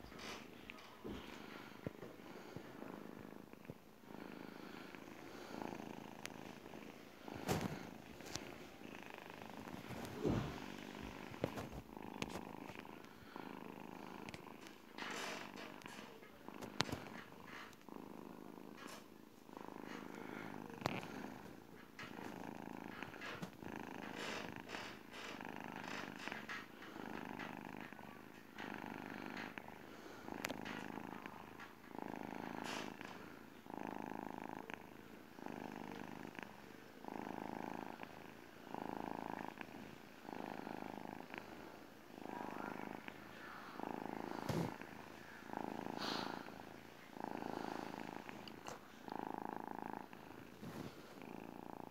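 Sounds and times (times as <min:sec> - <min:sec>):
kitten purring: 0:00.0 - 0:51.9.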